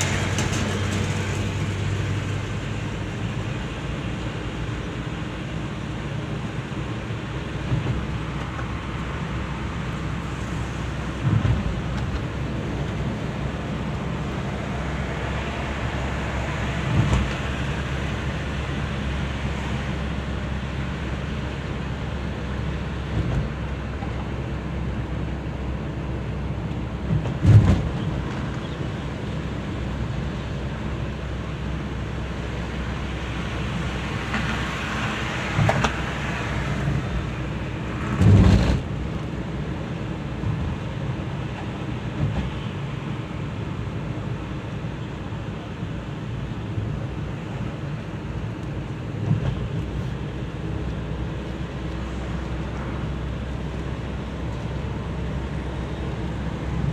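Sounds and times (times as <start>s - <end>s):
car engine and tyres drone: 0.0s - 56.9s.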